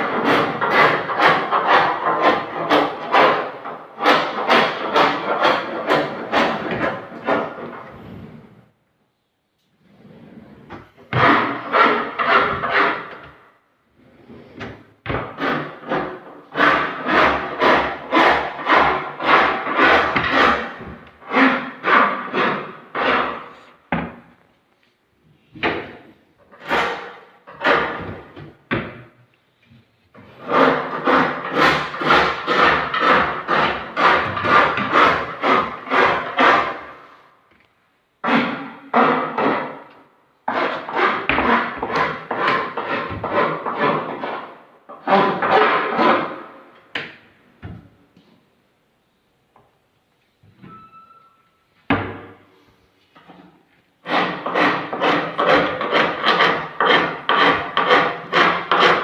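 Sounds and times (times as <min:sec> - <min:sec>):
hand tool working wood: 0:00.0 - 0:08.6, 0:09.9 - 0:24.4, 0:25.4 - 0:48.4, 0:51.9 - 0:59.0.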